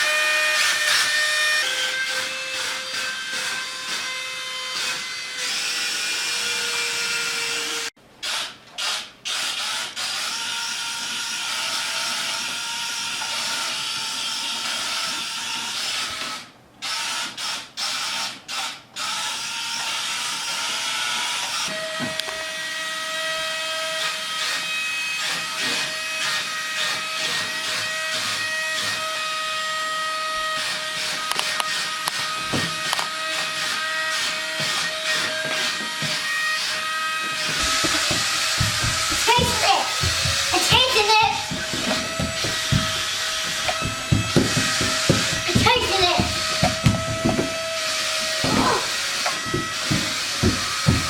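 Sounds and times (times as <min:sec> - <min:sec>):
toy car fan and motors whirring: 0:00.0 - 0:51.0.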